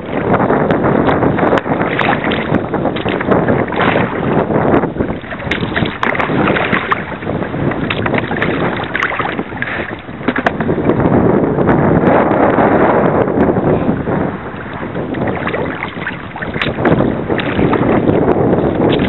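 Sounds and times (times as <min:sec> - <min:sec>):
water moving around kayak: 0:00.0 - 0:19.0
wind on microphone: 0:00.0 - 0:19.0.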